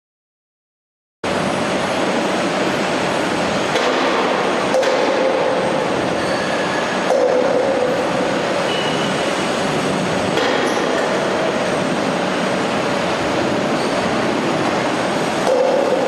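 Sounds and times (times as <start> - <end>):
roller conveyors and motors running: 1.3 - 16.0.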